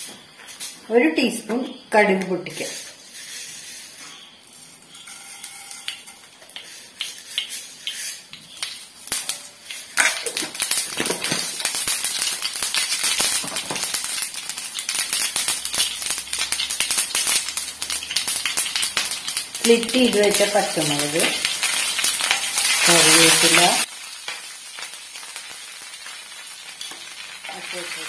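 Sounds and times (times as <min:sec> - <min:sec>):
seeds popping in hot oil: 0:01.7 - 0:28.0.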